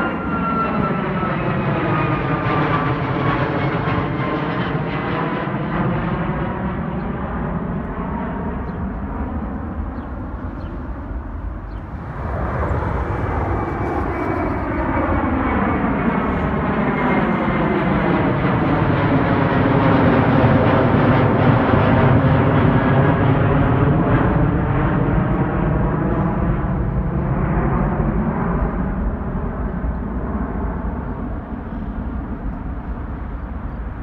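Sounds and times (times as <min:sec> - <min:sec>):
jet engines climbing away: 0:00.0 - 0:34.0
jet passing low overhead: 0:00.0 - 0:34.0.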